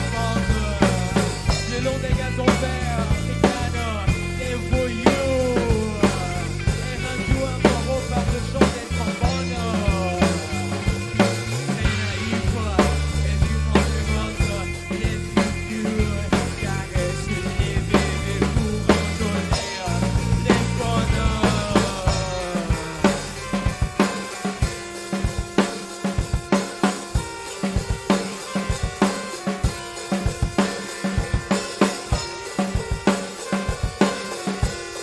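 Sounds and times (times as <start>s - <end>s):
drum kit beat: 0.0s - 35.0s
electric bass line: 0.0s - 35.0s.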